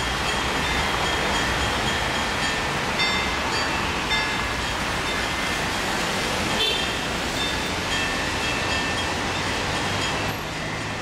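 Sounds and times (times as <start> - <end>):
church bells ringing: 0.0 - 6.2, 7.3 - 11.0
street traffic: 0.0 - 11.0.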